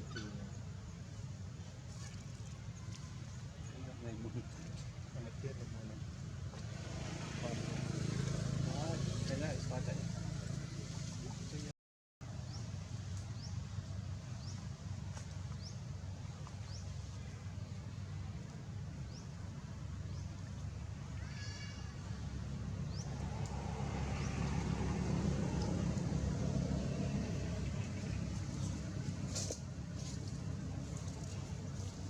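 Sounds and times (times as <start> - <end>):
low vehicle rumble: 5.1 - 32.0.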